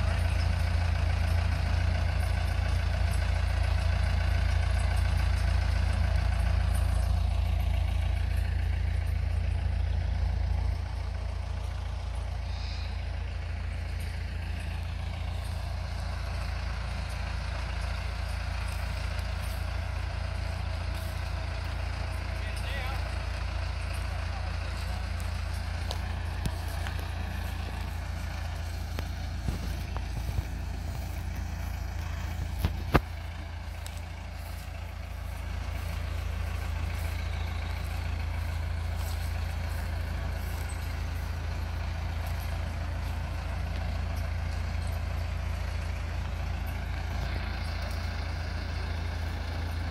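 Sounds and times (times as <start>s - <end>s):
diesel locomotive engine running: 0.0s - 49.9s.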